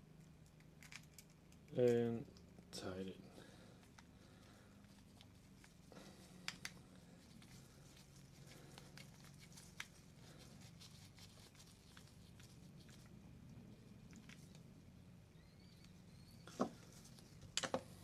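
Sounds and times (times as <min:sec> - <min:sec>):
faint scratching and ticking: 0:00.0 - 0:18.0.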